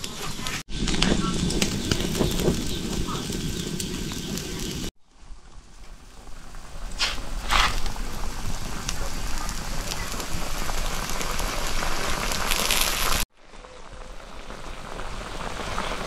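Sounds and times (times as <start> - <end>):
food sizzling over fire: 0.0 - 16.0
sharp wood fire cracks: 0.0 - 16.0.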